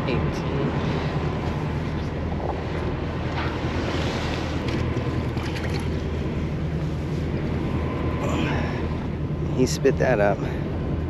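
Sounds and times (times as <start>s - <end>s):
boat engine hum: 0.0s - 11.0s.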